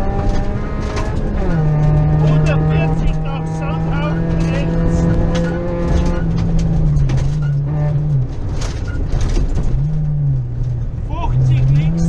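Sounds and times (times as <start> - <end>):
car engine from inside cabin: 0.0 - 12.0.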